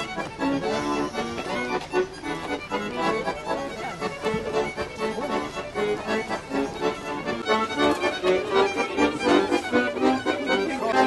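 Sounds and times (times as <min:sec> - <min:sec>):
folk music with accordion: 0:00.0 - 0:11.0.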